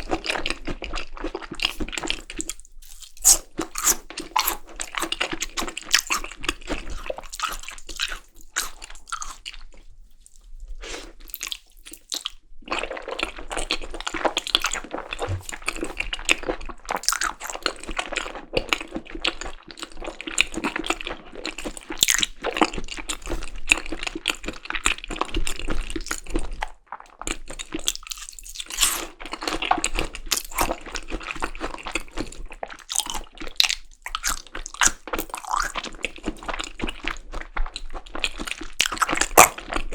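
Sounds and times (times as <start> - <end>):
wet chewing mouth sounds: 0.0 - 39.9.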